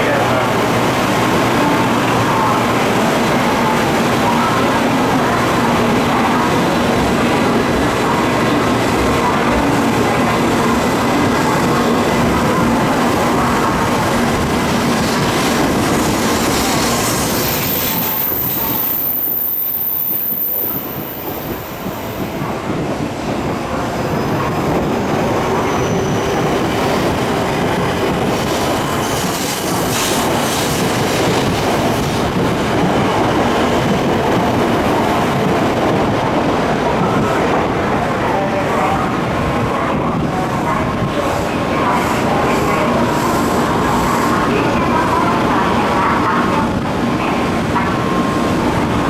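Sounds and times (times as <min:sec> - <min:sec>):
train wheels rolling on rail: 0:00.0 - 0:49.0.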